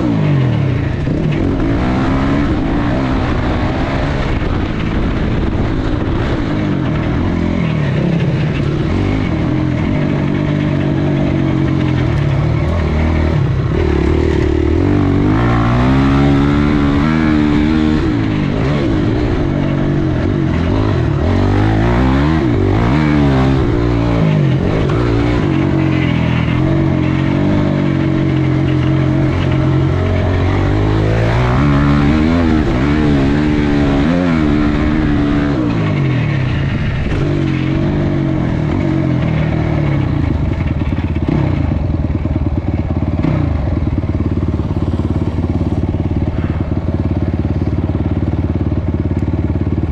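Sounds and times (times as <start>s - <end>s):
dirt bike engine revving and idling: 0.0s - 49.9s.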